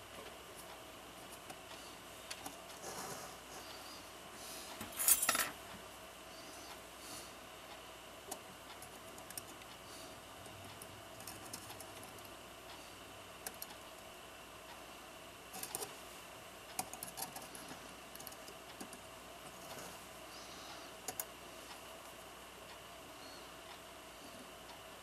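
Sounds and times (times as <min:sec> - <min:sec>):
faint steady background tone: 0:00.0 - 0:25.0.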